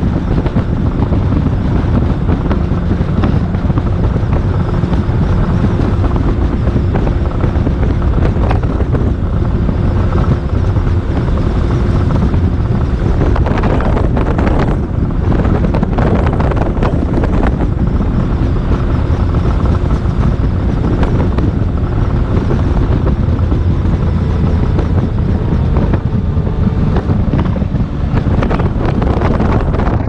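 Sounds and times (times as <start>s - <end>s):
boat motor running: 0.0s - 30.0s
wind buffeting microphone: 0.0s - 30.0s.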